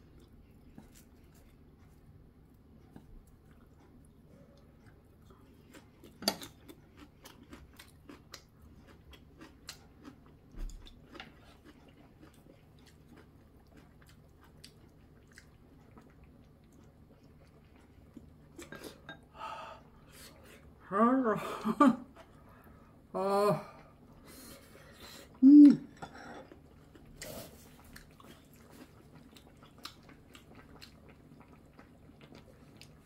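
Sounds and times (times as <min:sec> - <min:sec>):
person chewing food: 0:00.0 - 0:20.8, 0:23.8 - 0:33.0.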